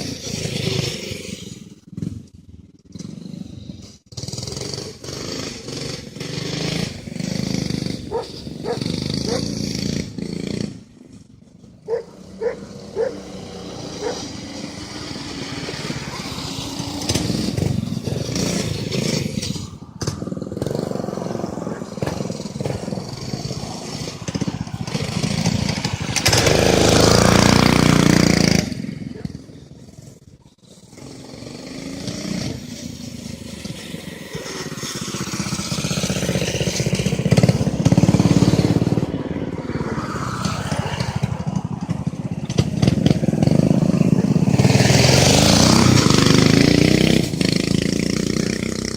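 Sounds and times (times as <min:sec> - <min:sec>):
small engine revving: 0:00.0 - 0:48.9.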